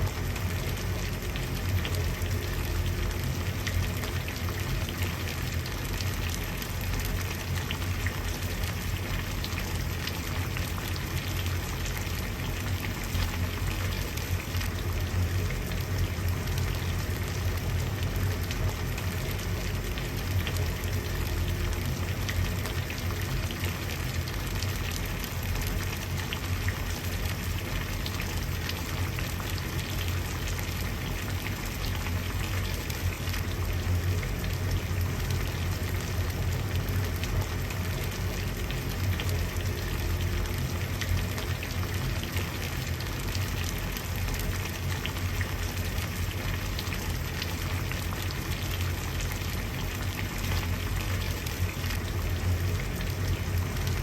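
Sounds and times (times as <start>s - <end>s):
water boiling and bubbling: 0.0s - 54.0s.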